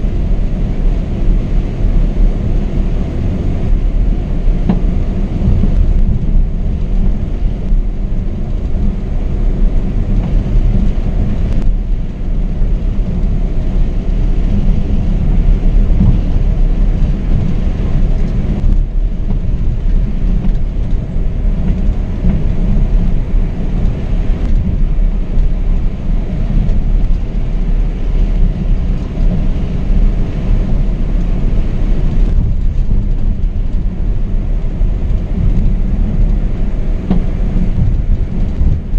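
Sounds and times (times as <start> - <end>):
bus engine and tyre rumble: 0.0 - 38.9.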